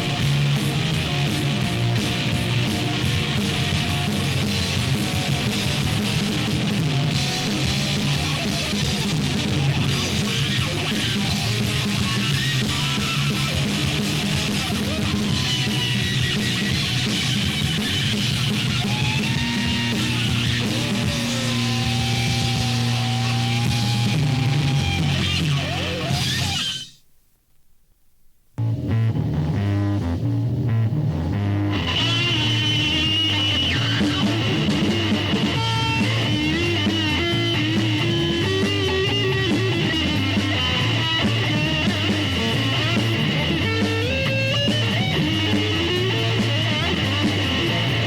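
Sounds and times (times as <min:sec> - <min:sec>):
distorted electric guitar: 0:00.0 - 0:27.0, 0:28.6 - 0:48.0.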